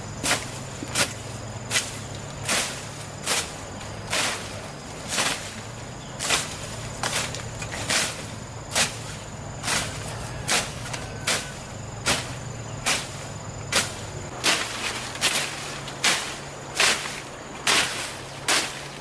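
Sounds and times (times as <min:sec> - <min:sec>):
broom sweeping: 0:00.0 - 0:19.0.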